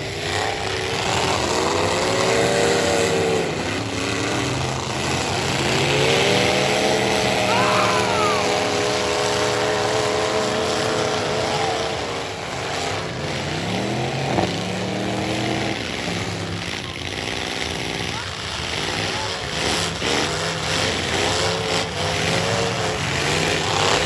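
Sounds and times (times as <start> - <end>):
truck engines revving hard: 0.0 - 24.0.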